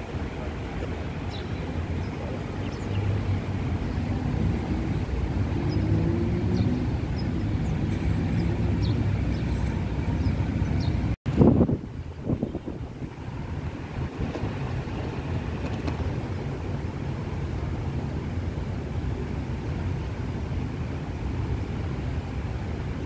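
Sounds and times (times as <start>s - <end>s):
distant traffic rumble: 0.0s - 23.0s
vehicle engine humming: 0.0s - 23.0s
wind on microphone: 0.0s - 23.0s.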